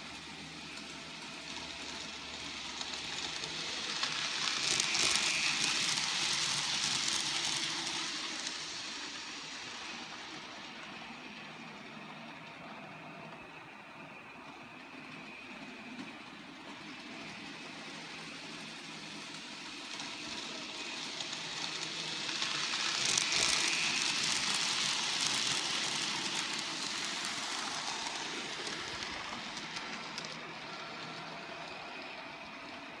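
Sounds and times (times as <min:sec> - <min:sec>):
model train wheels rattling on track: 0:00.0 - 0:11.3, 0:15.9 - 0:32.8.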